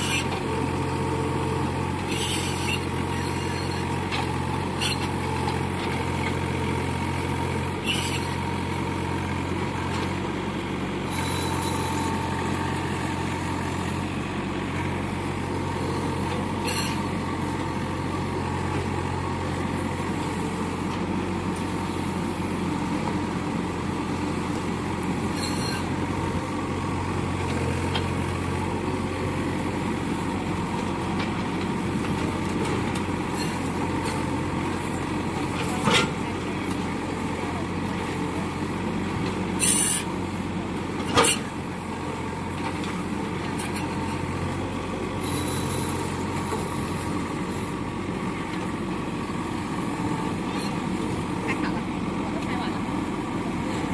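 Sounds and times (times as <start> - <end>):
diesel excavator engine running: 0.0 - 53.9.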